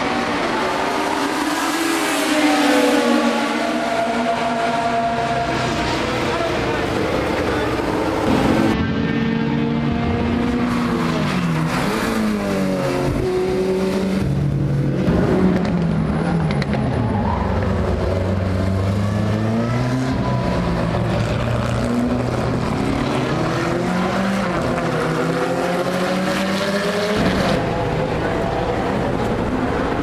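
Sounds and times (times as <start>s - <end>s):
racing car engines accelerating: 0.0s - 30.0s.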